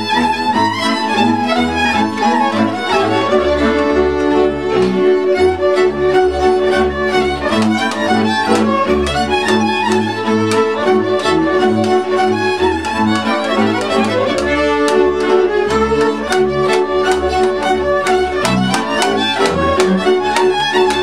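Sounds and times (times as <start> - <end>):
double bass: 0.0 - 21.0
fiddles playing melody: 0.0 - 21.0
rhythmic string chords: 0.0 - 21.0.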